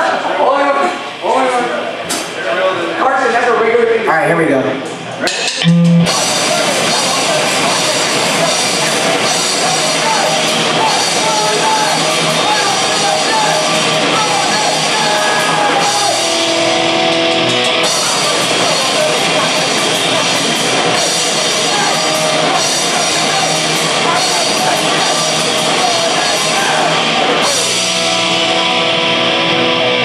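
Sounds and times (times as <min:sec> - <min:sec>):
drum kit: 0:05.2 - 0:30.0
electric guitars: 0:05.3 - 0:30.0.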